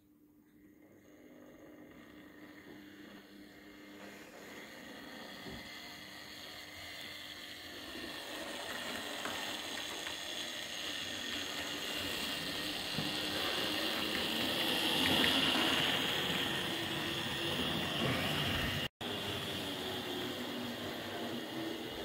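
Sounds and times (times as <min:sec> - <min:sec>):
model train motor whirring: 0:00.9 - 0:22.0.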